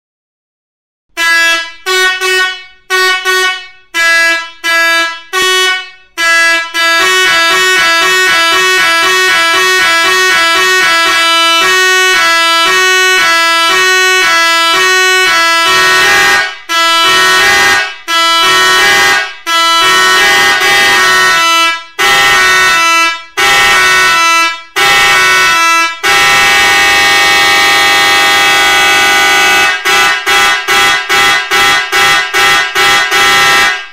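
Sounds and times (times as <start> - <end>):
musical air horn playing: 1.1 - 33.9.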